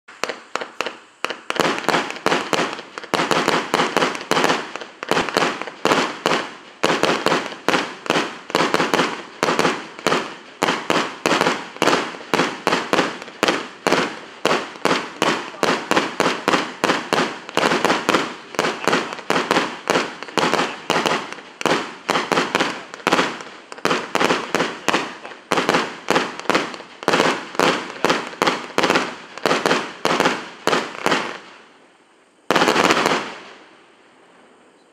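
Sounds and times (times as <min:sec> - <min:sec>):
fireworks firing sharp pops: 0:00.1 - 0:31.7, 0:32.5 - 0:33.7.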